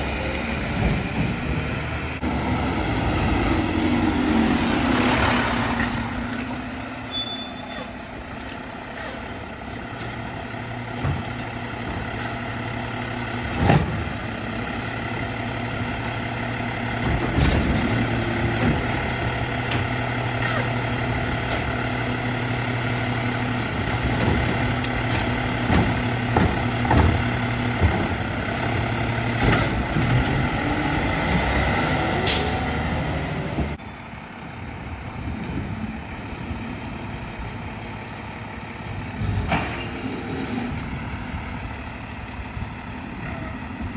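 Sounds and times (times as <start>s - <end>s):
diesel truck engine hum: 0.0s - 43.9s.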